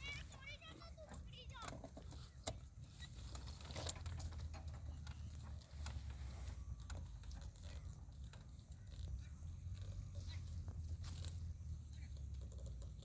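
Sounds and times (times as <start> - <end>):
donkey chewing grass: 0.0 - 13.0.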